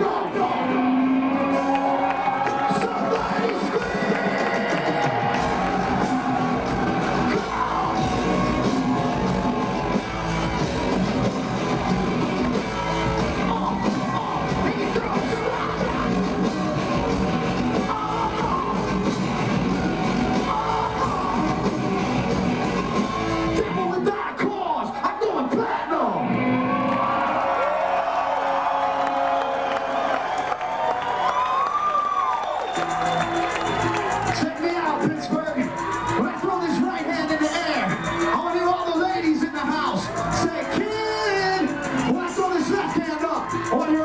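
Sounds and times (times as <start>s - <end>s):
rap-rock band playing: 0.0s - 26.6s, 32.8s - 44.0s
shouted vocals: 0.0s - 44.0s.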